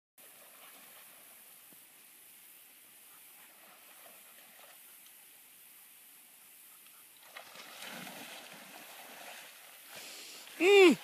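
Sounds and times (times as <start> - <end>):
water splashing: 0.2 - 5.8, 6.9 - 11.0
faint outdoor ambience: 0.2 - 11.0.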